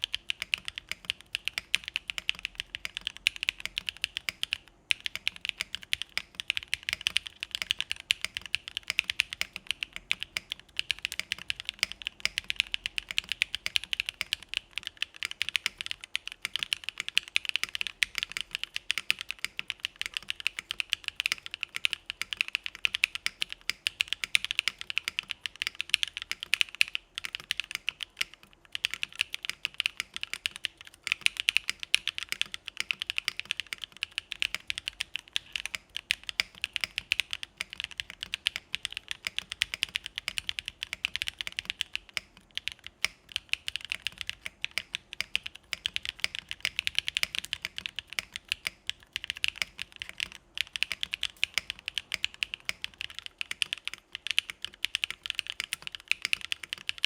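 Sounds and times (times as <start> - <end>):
fast mechanical keyboard typing: 0.0 - 57.0.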